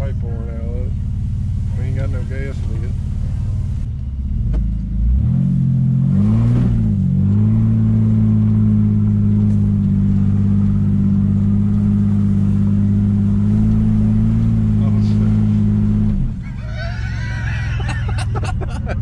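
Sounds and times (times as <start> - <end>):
truck engine revving: 0.0 - 3.9, 5.0 - 19.0.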